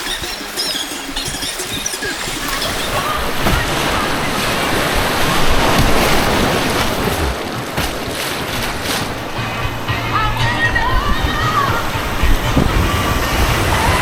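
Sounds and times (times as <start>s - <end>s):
white-water rapids rushing: 0.0s - 14.0s.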